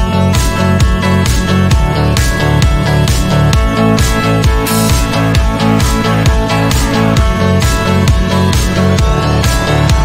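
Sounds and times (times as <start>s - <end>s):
upbeat music with steady beat: 0.0s - 10.0s.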